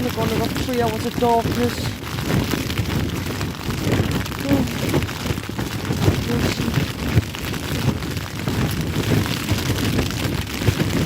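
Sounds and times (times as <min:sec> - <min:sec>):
tent fabric flapping in wind: 0:00.0 - 0:11.0
wind rumbling on microphone: 0:00.0 - 0:11.0.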